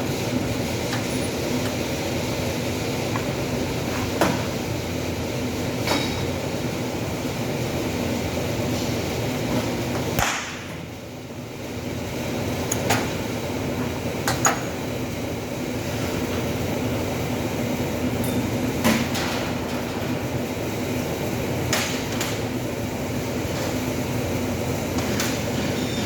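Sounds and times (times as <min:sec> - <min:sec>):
workshop hum: 0:00.0 - 0:26.0.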